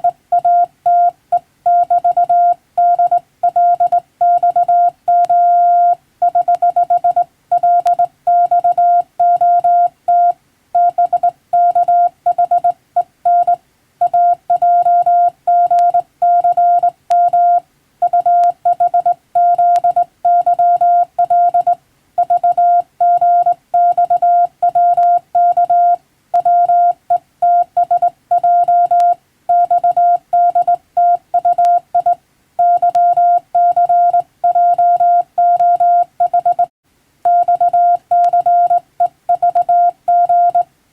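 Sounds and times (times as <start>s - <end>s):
morse code beeps: 0.0s - 36.7s, 37.3s - 40.6s.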